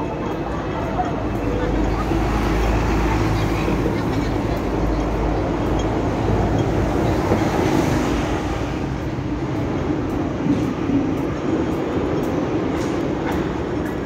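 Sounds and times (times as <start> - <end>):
heavy vehicle engine rumble: 0.0 - 14.0
street traffic noise: 0.0 - 14.0.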